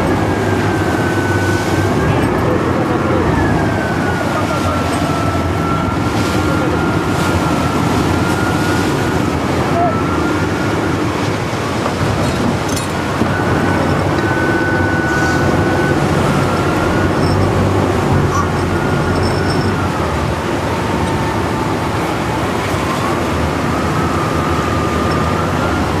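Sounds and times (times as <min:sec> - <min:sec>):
boat engine running: 0:00.0 - 0:26.0
rough sea: 0:00.0 - 0:26.0.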